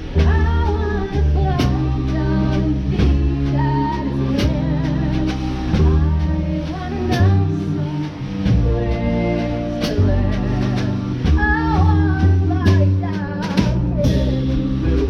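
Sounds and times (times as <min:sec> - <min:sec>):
heavy bass line: 0:00.0 - 0:15.0
pit band playing: 0:00.0 - 0:15.0.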